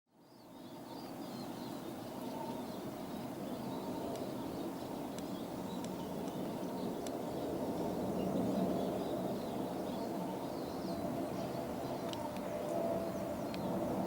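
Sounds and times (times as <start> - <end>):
birds chirping faintly: 0.1 - 14.0
jet engines rumbling: 0.4 - 14.0.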